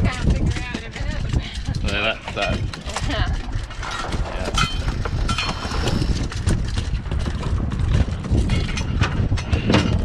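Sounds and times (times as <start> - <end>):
fish thrashing on boat deck: 0.0 - 10.0.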